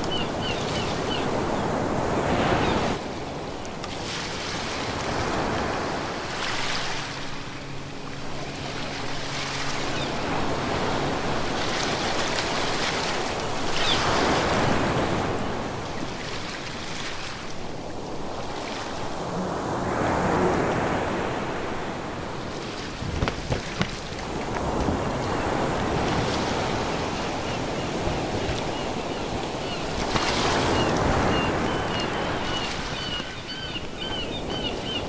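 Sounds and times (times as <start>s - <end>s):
ocean waves surging: 4.2s - 35.0s.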